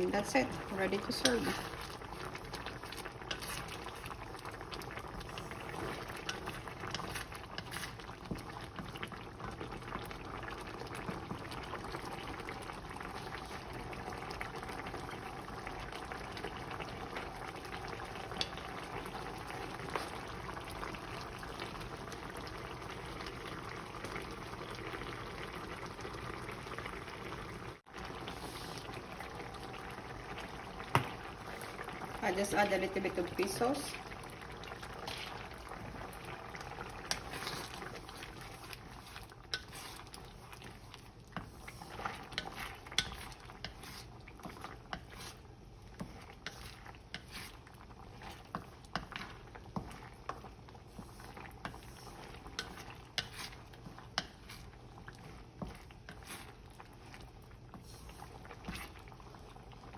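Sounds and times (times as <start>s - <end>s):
curry bubbling in a pan: 0.0s - 59.9s.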